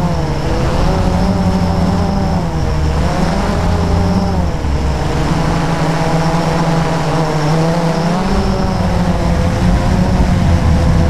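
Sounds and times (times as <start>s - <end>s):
model aircraft motor droning: 0.0s - 11.0s
wind rumbling over microphone: 0.0s - 11.0s.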